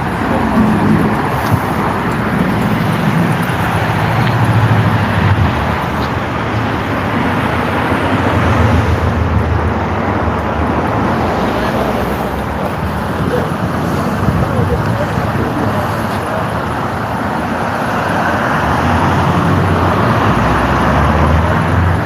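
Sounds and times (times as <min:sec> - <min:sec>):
cars passing: 0:00.0 - 0:22.0
low engine rumble: 0:00.0 - 0:22.0.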